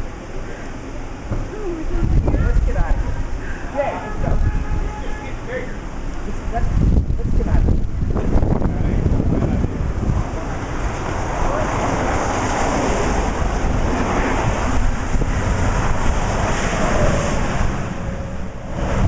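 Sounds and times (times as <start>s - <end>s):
wind buffeting microphone: 1.2s - 19.0s.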